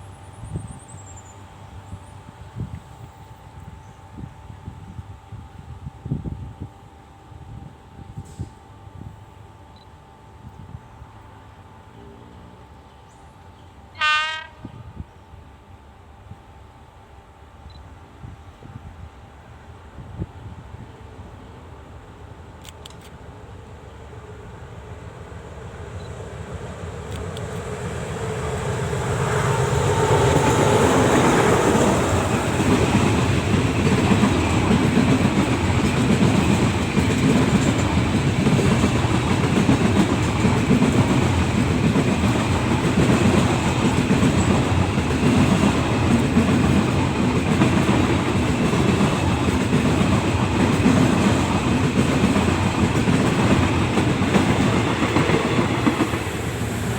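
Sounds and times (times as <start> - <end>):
train passing: 0.0 - 56.9.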